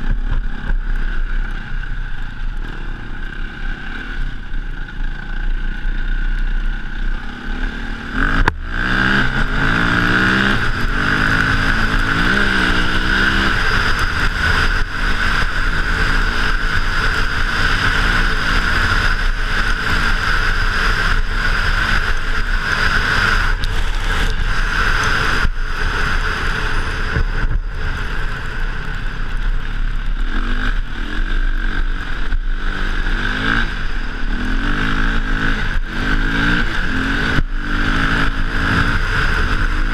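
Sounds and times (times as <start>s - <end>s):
dirt bike engine revving: 2.6s - 39.9s.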